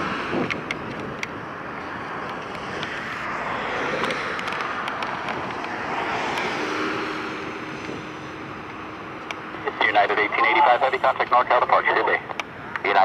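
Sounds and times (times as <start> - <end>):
jet engines at takeoff thrust: 0.0 - 13.0.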